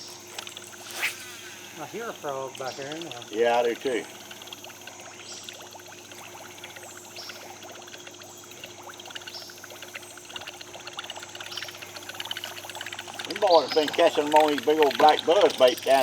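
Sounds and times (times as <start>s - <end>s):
faint steady hum: 0.0s - 16.0s
water trickling and splashing: 0.0s - 16.0s.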